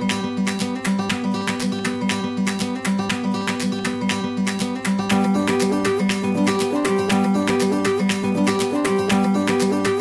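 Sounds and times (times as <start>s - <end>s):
strummed guitar music: 0.0s - 10.0s.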